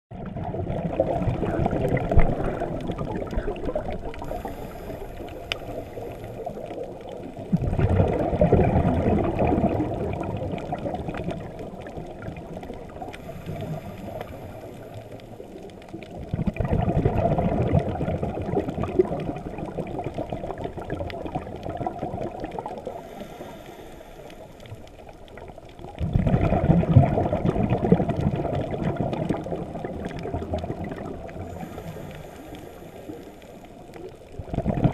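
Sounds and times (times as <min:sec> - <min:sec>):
bubbles gurgling underwater: 0:00.1 - 0:34.9.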